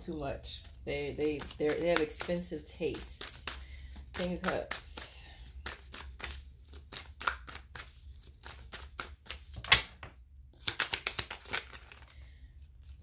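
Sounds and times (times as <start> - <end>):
cards being shuffled: 0.6 - 12.1.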